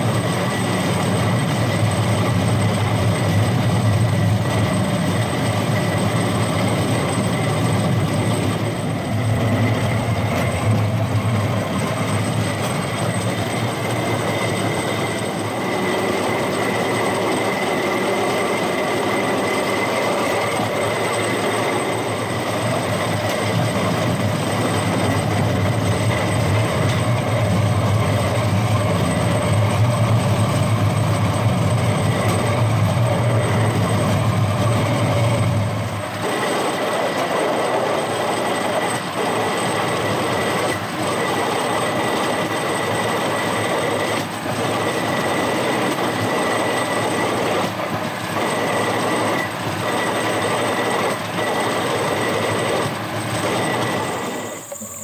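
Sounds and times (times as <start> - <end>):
thin steady whine: 0.0 - 55.0
wheels rattling on rails: 0.0 - 55.0.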